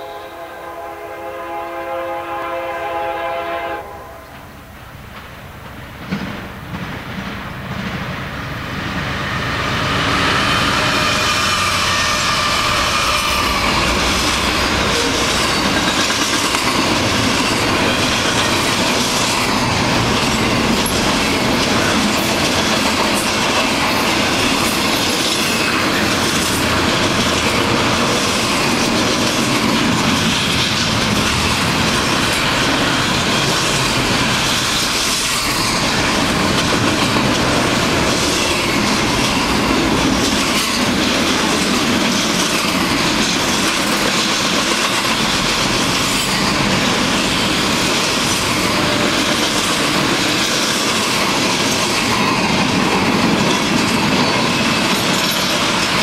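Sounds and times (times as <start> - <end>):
locomotives passing: 3.9 - 56.0
train wheel clatter on rails: 4.3 - 56.0.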